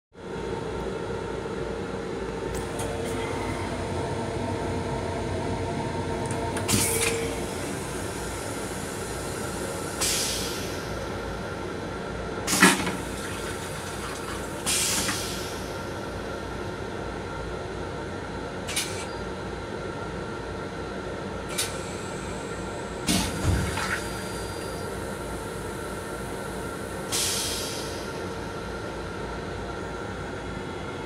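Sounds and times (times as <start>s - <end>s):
train car running noise: 0.2s - 31.0s.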